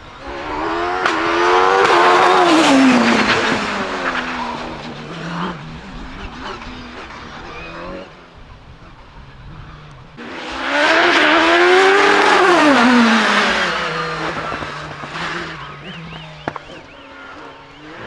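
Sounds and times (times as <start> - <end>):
racing car speeding past: 0.0 - 18.0.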